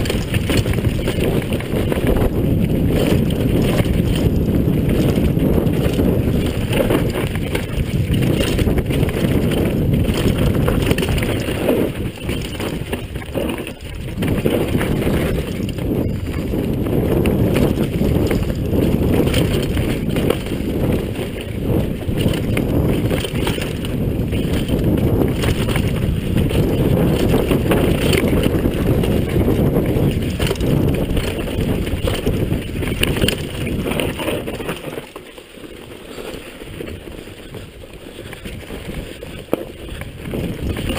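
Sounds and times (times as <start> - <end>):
bike rattling over bumps: 0.0 - 40.9
tyre rumble on dirt: 0.0 - 40.9
wind rushing over microphone: 0.0 - 40.9.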